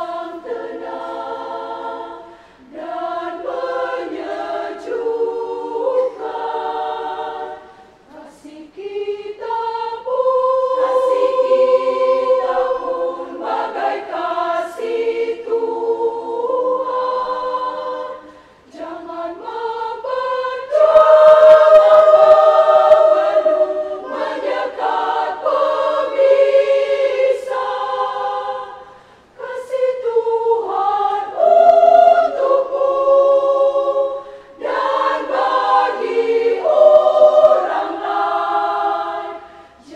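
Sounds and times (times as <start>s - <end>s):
women's choir singing a cappella: 0.0s - 39.9s.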